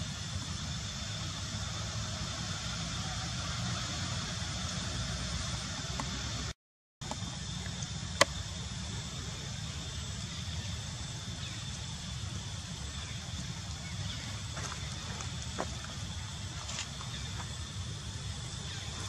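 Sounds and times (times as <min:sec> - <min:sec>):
low rumble and hiss: 0:00.0 - 0:19.0.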